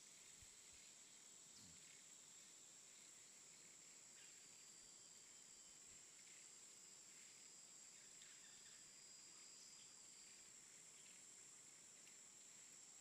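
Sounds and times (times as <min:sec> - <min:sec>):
faint steady high hiss: 0:00.0 - 0:13.0.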